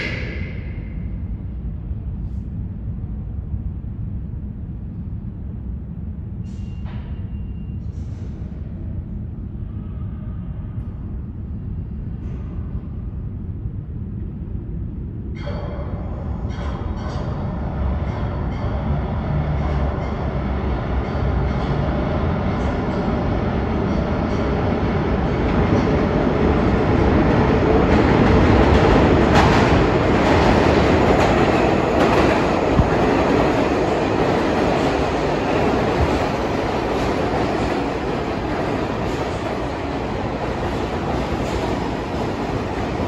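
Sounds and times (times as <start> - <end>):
subway train rumble: 0.0 - 43.0.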